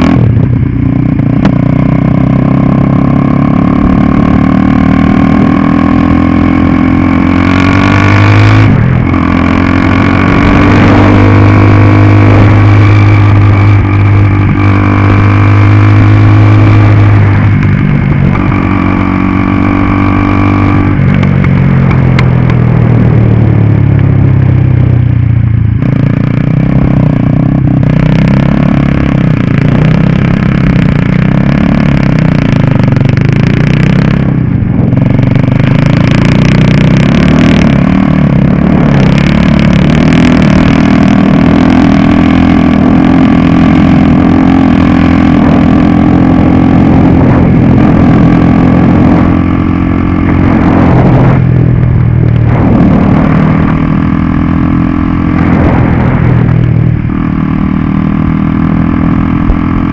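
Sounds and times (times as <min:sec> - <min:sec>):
go-kart engine revving: 0:00.0 - 0:24.3, 0:25.8 - 0:59.9.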